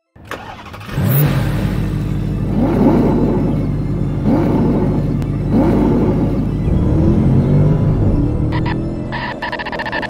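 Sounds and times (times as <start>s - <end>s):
car engine rumble: 0.3s - 10.0s.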